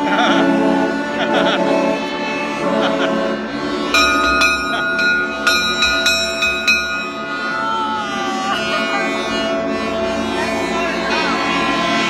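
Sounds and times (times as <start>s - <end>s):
boat horns: 0.0s - 12.0s
ship's bell ringing: 0.0s - 12.0s.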